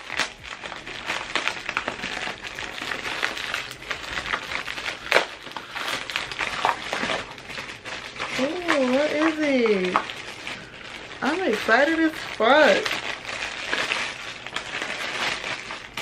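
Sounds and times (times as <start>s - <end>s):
wrapping paper crinkling and tearing: 0.0s - 16.0s.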